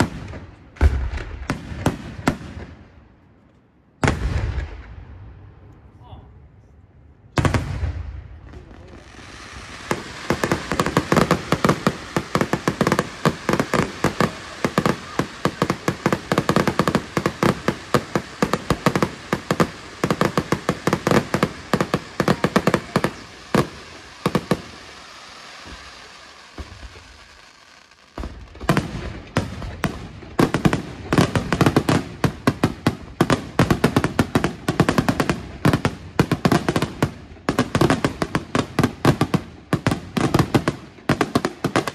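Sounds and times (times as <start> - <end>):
fireworks bursting and crackling: 0.0 - 5.8, 7.3 - 41.9.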